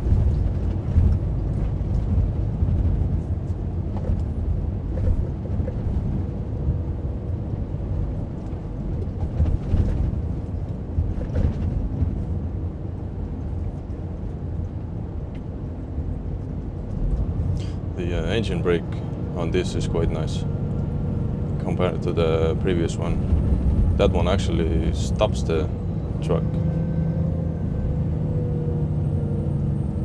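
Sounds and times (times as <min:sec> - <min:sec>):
truck engine and road rumble: 0:00.0 - 0:30.0.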